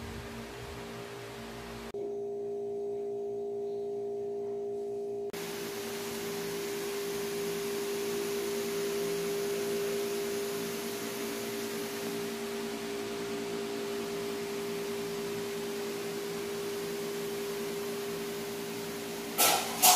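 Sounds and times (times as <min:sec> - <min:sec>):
steady humming tone: 0:00.0 - 0:19.9.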